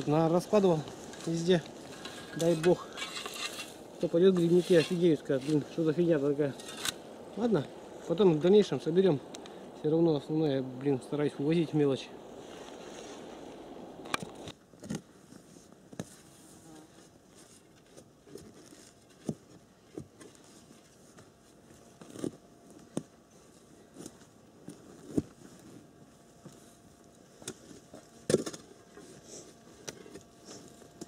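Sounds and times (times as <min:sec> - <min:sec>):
knocks and crackles on forest floor: 0:00.0 - 0:07.8, 0:12.4 - 0:31.0.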